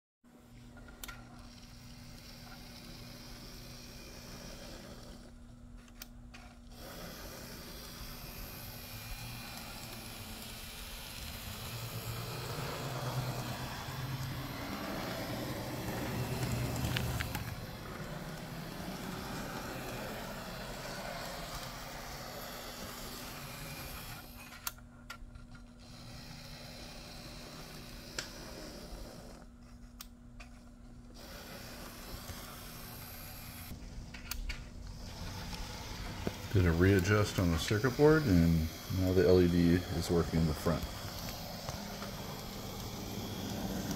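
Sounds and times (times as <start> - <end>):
model train motor whirring: 0.7 - 43.9.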